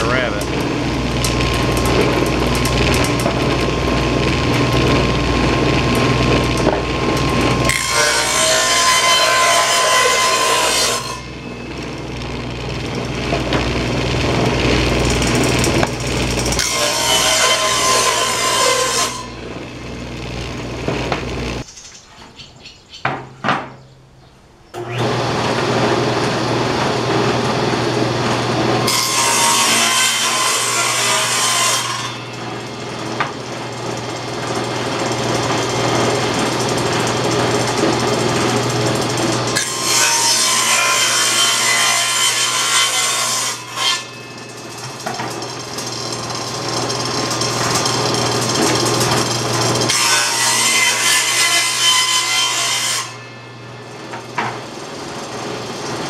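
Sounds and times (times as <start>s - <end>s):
table saw cutting wood: 0.0s - 21.6s, 24.8s - 56.0s
saw motor hum and whine: 0.0s - 21.7s, 24.7s - 56.0s.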